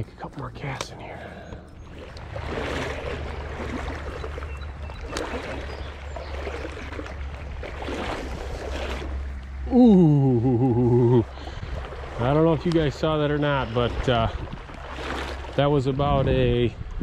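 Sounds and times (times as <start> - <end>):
creek water rushing: 0.0 - 15.9.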